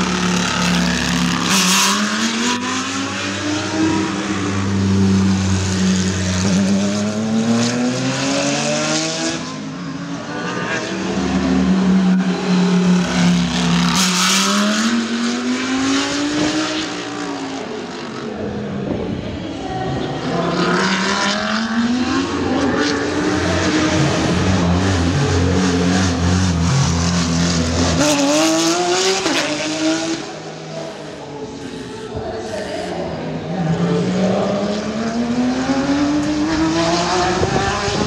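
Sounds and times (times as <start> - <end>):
race car engines passing: 0.0 - 38.0.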